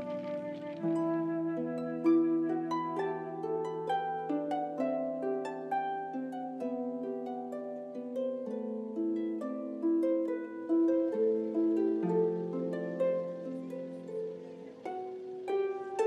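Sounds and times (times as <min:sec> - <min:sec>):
harp music: 0:00.0 - 0:16.0.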